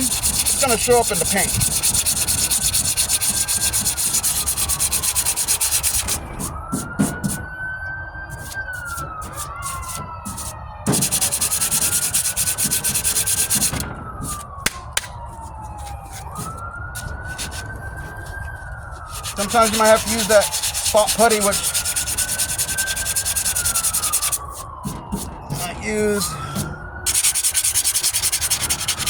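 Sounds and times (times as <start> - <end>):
hand sanding strokes: 0.0 - 7.4, 8.3 - 29.0
siren wailing: 0.0 - 29.0.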